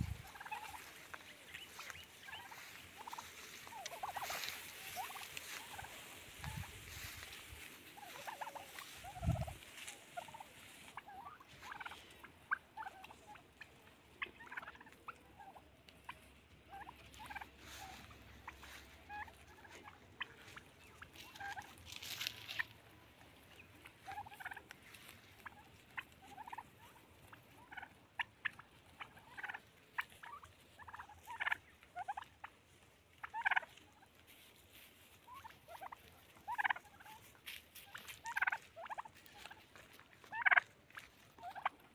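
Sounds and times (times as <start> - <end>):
turkeys calling: 0.0 - 41.9.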